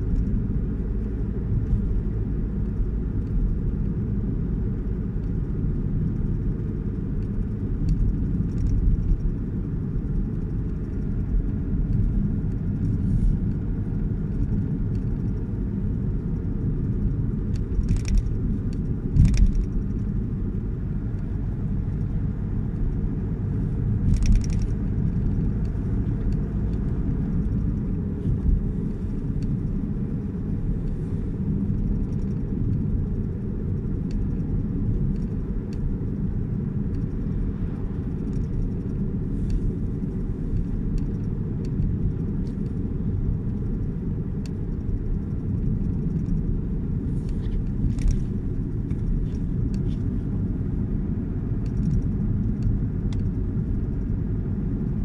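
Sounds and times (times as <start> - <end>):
car cabin engine and tyre rumble: 0.0 - 55.0.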